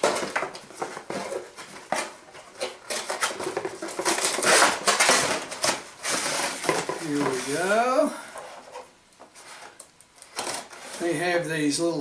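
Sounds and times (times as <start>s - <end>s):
cardboard and plastic packaging handled: 0.0s - 11.5s.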